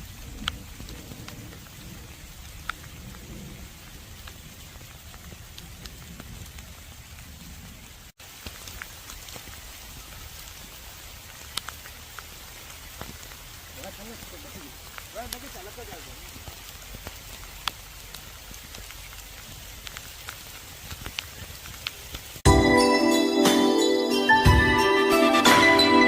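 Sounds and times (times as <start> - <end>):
raindrops ticking sharply: 0.0 - 22.5
steady rain falling: 0.0 - 23.2.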